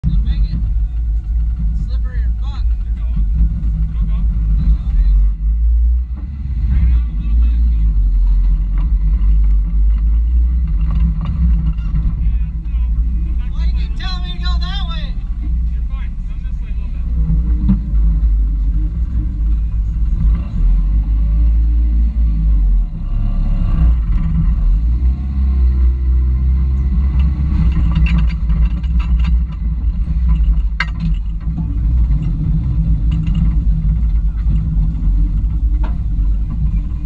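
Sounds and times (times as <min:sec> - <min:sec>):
truck engine rumbling: 0:00.0 - 0:37.0.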